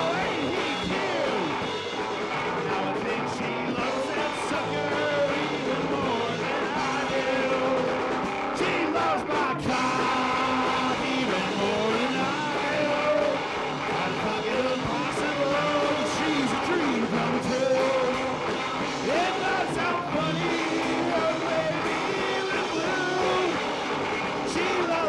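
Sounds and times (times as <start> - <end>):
person singing: 0.0 - 1.8, 2.6 - 25.0
rock band playing: 0.0 - 25.0.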